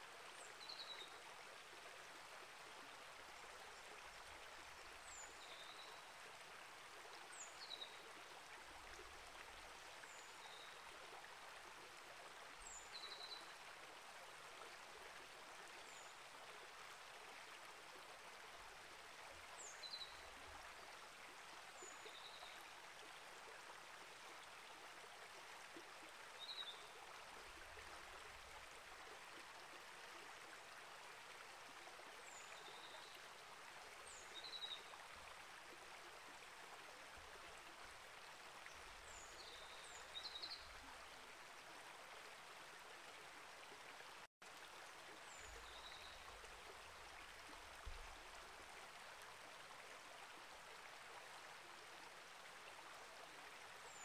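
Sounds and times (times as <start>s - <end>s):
creek flowing: 0.0s - 54.0s.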